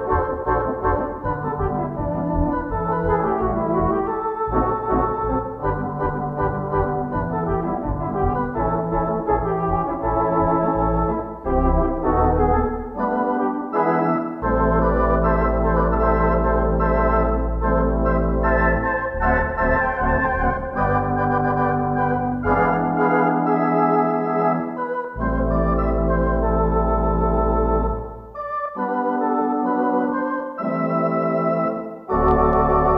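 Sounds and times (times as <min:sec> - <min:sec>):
theatre organ playing: 0:00.0 - 0:32.9.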